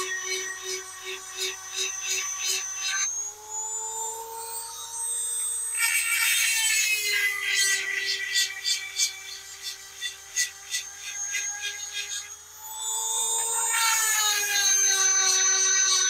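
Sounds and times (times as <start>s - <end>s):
grinding stone rasping on chain: 0.0s - 3.2s, 5.7s - 16.0s
chainsaw sharpener motor whining: 0.0s - 16.0s.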